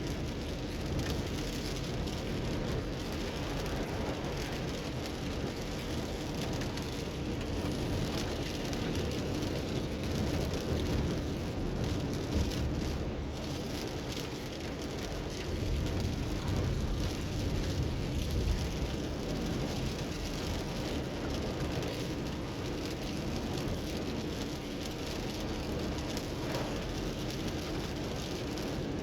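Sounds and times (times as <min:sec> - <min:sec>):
rain on a moving car: 0:00.0 - 0:29.0
road and engine rumble: 0:00.0 - 0:29.0.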